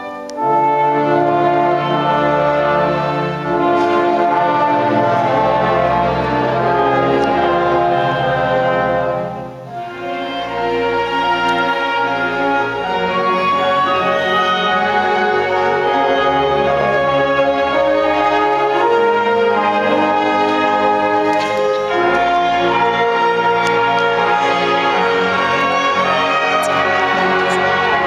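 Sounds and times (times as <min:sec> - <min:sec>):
orchestra playing sustained chords: 0:00.0 - 0:28.0.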